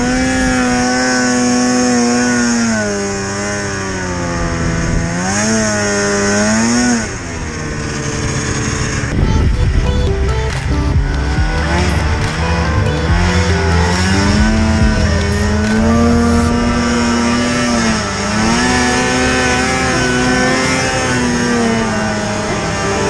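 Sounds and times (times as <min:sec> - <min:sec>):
snowmobile engine running hard: 0:00.0 - 0:23.0.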